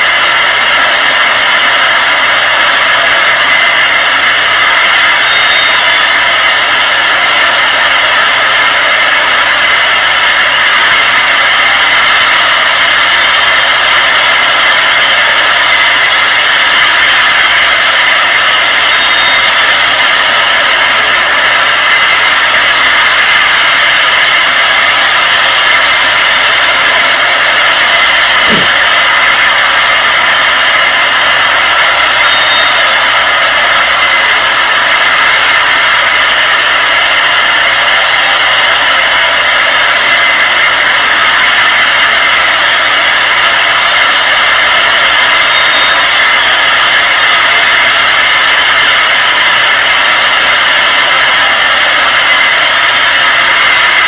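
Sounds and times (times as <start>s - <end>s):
loud steady rushing noise: 0.0s - 54.0s.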